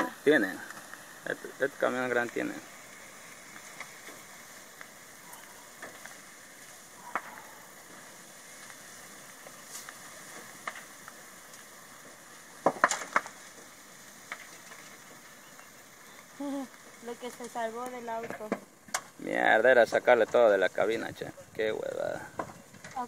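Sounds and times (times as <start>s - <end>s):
fire crackling: 0.0s - 23.0s
sharp pops from fire: 0.0s - 23.0s.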